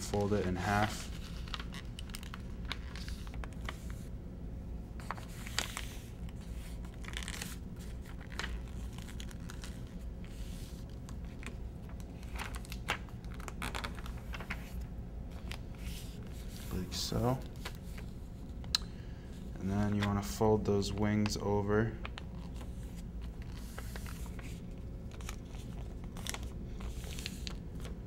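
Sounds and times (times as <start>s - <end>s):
paper being folded and creased: 0.0s - 4.1s, 5.0s - 18.3s, 22.0s - 28.0s
paper crinkling and rustling: 0.0s - 4.1s, 5.0s - 18.6s, 22.0s - 28.0s.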